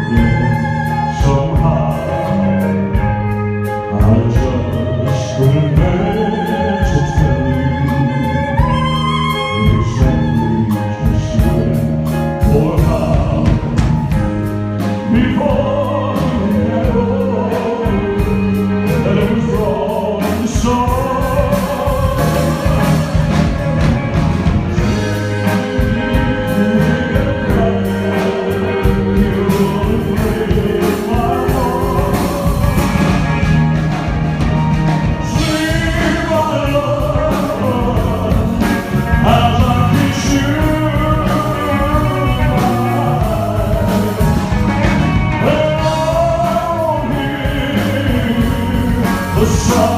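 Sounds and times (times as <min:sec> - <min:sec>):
drums and bass: 0:00.0 - 0:49.9
person singing: 0:00.0 - 0:49.9.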